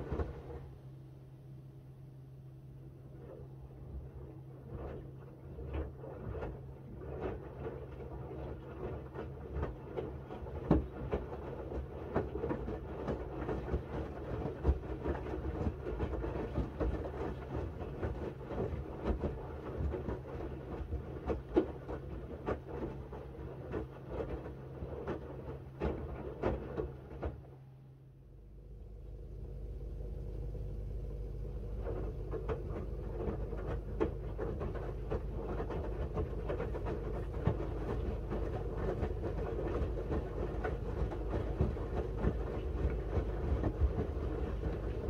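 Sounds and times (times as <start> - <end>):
washing machine motor hum: 0.0 - 45.0
wet laundry knocking and splashing: 4.7 - 27.6, 31.8 - 45.0.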